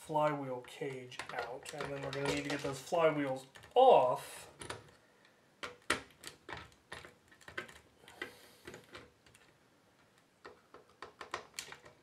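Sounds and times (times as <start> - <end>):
plastic parts clicking and knocking: 0.6 - 12.0.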